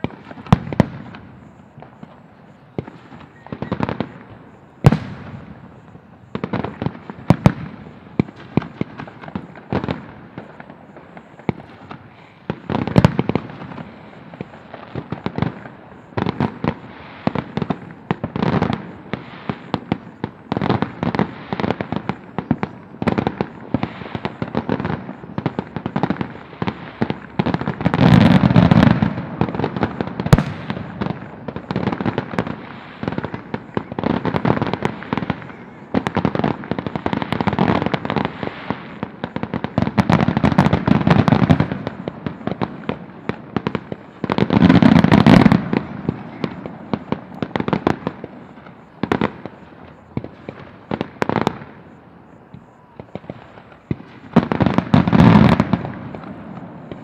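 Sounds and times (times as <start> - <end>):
firework crackle: 0.0 - 57.0
firework shells booming: 0.0 - 57.0.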